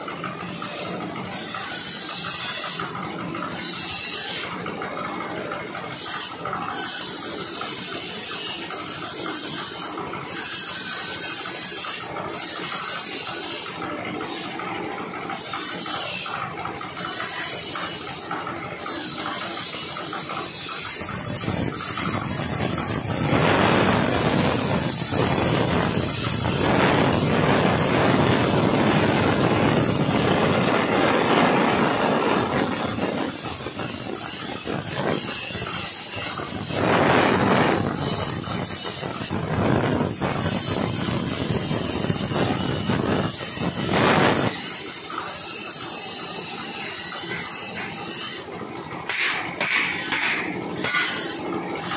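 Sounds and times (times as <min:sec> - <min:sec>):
plasma torch cutting steel: 0:00.0 - 0:51.9
plasma cutter hissing: 0:00.2 - 0:05.0, 0:05.7 - 0:51.9.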